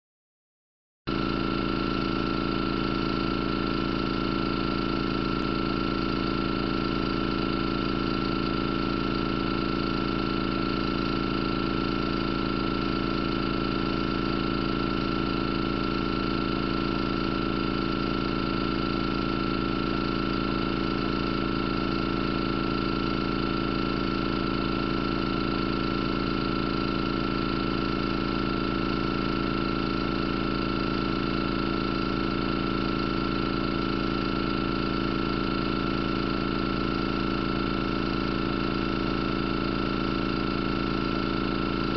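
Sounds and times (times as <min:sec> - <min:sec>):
toy engine humming with high whine: 0:01.2 - 0:41.9.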